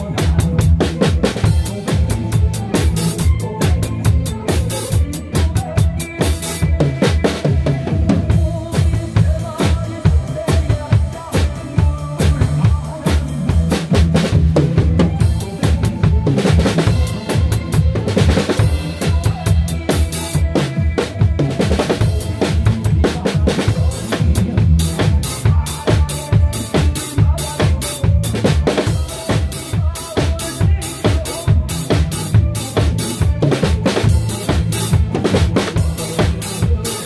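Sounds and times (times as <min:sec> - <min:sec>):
drum kit playing a steady beat: 0:00.0 - 0:37.0
recorded song: 0:00.0 - 0:37.0.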